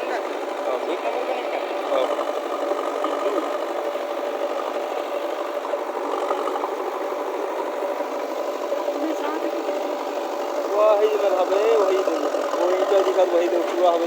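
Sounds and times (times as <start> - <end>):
diesel engine running: 0.0 - 14.0
faint voices: 0.0 - 14.0.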